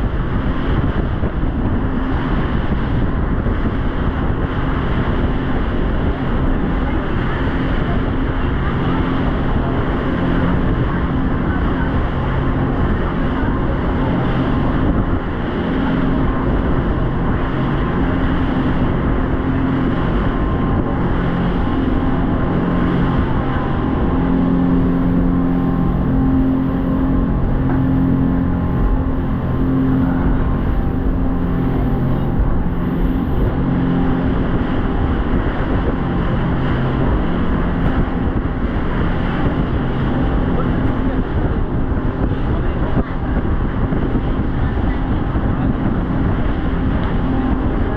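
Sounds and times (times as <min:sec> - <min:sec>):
boat engine hum: 0:00.0 - 0:47.9
loud rushing noise: 0:00.0 - 0:47.9.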